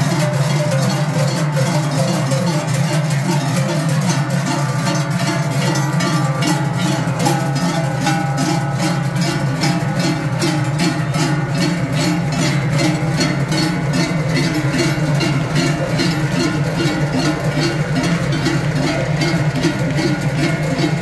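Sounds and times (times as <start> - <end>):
cowbells clanging: 0.0 - 21.0.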